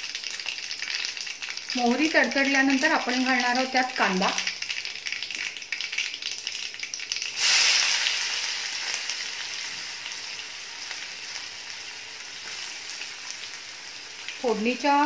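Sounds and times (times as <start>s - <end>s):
mustard seeds crackling in oil: 0.0s - 15.0s
onion sizzling in oil: 0.0s - 15.0s.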